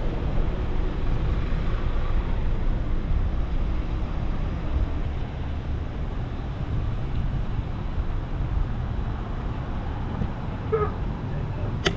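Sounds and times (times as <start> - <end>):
street traffic: 0.0 - 11.9.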